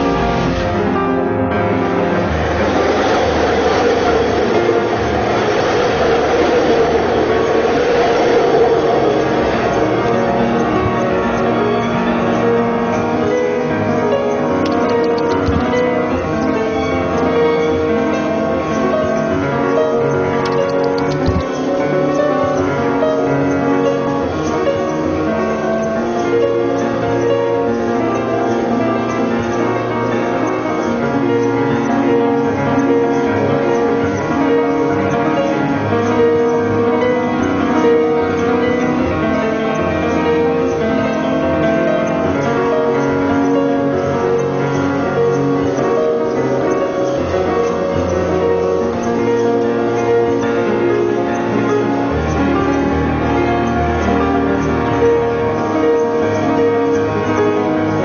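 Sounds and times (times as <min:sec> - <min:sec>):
instrumental piano music: 0:00.0 - 0:58.0.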